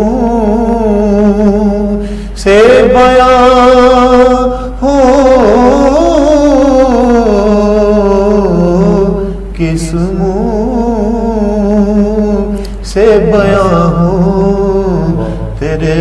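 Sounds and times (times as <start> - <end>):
man chanting unaccompanied: 0.0 - 16.0.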